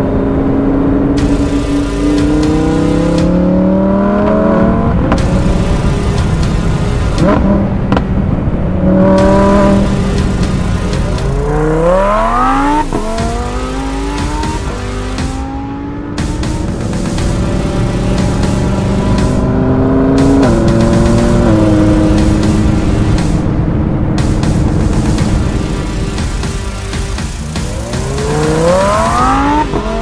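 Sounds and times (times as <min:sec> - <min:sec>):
sports car engine accelerating: 0:00.0 - 0:30.0.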